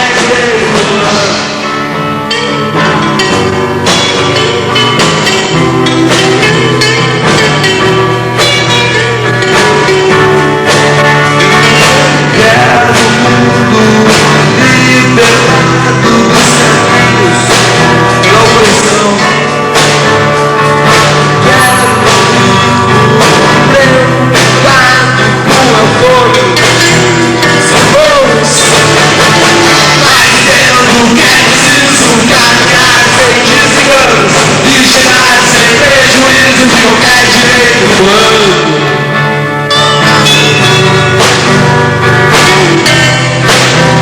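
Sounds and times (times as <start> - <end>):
person singing: 0.0 - 44.0
rock band playing live: 0.0 - 44.0.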